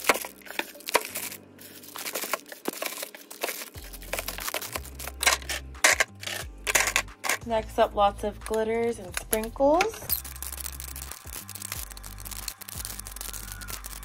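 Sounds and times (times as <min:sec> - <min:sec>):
plastic bag crinkling: 0:00.0 - 0:07.4, 0:09.4 - 0:14.0.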